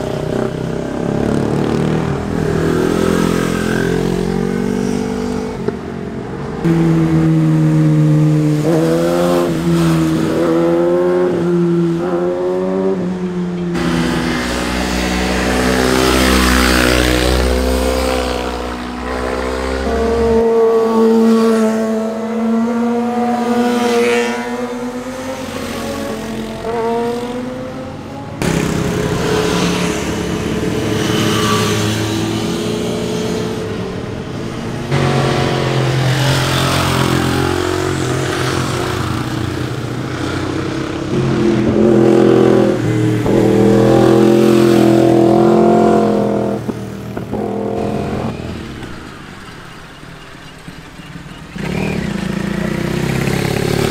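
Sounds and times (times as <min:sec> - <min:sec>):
motorcycles revving past at speed: 0:06.6 - 0:49.3, 0:51.5 - 0:53.9.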